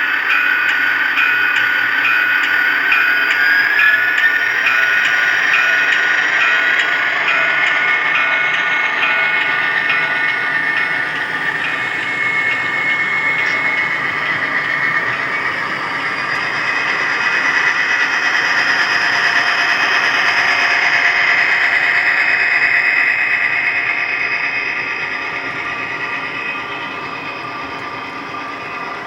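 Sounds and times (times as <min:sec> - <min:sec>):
model train running: 0:00.0 - 0:29.0.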